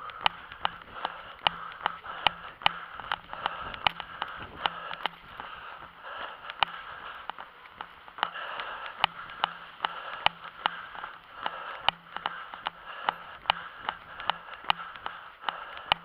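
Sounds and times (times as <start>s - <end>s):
footsteps on pavement: 0.0s - 16.0s.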